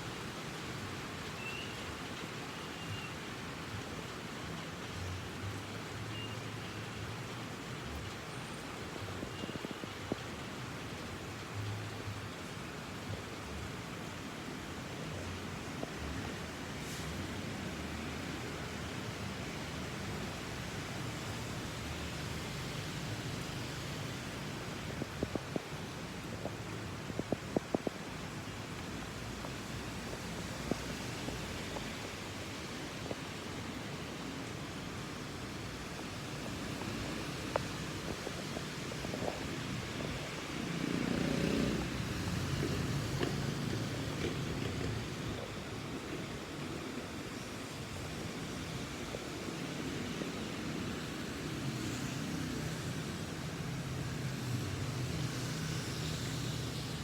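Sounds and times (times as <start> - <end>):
heavy rain and wind: 0.0 - 57.0.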